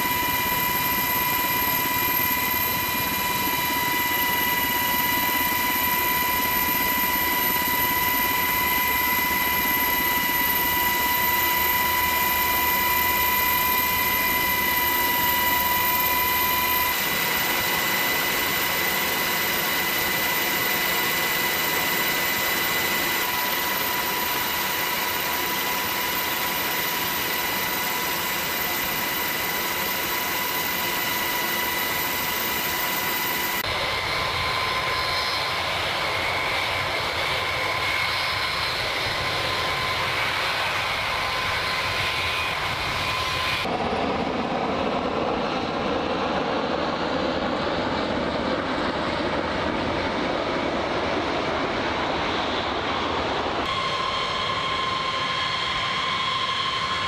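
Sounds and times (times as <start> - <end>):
aircraft engine whine and rush: 0.0 - 57.0.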